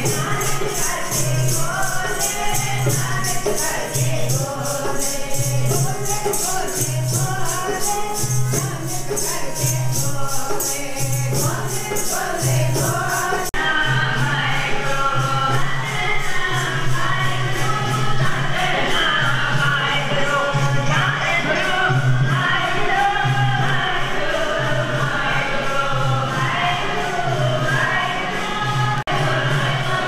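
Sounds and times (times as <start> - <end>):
devotional hymn singing: 0.0 - 30.0
fast percussion beat: 0.0 - 30.0.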